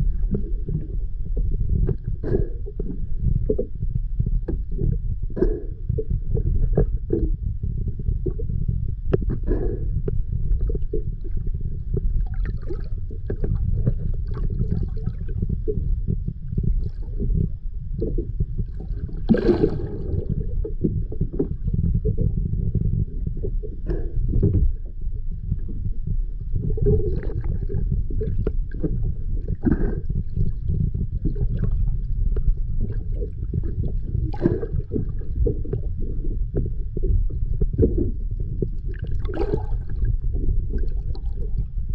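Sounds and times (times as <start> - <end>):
underwater rumble of moving water: 0.0 - 41.9
water gurgle: 0.0 - 41.9.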